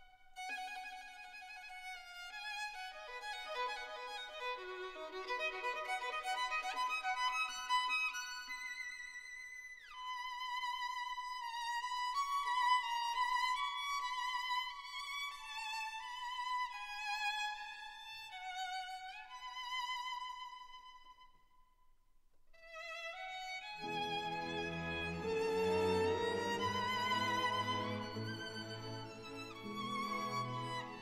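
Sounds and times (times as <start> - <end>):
slow violin melody: 0.0 - 21.2, 22.6 - 31.0.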